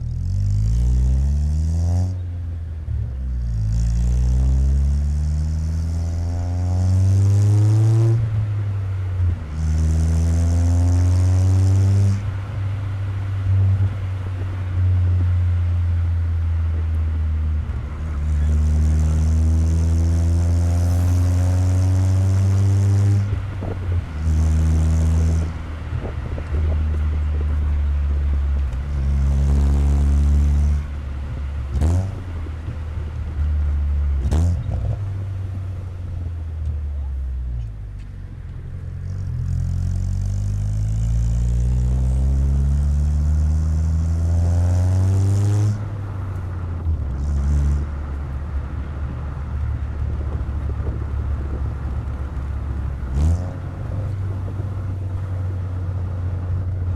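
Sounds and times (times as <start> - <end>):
car exhaust revving: 0.0 - 56.9.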